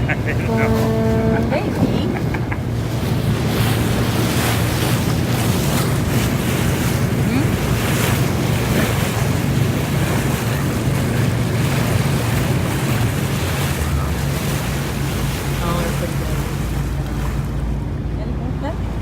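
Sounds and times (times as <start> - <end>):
ferry engine drone: 0.0 - 19.0
wind buffeting microphone: 0.0 - 19.0.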